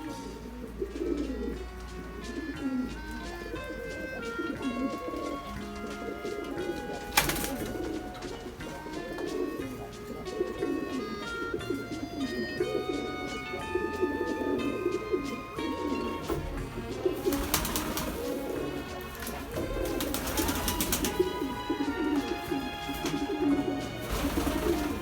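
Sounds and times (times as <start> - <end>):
background music: 0.0 - 25.0
pigeons cooing: 0.0 - 25.0.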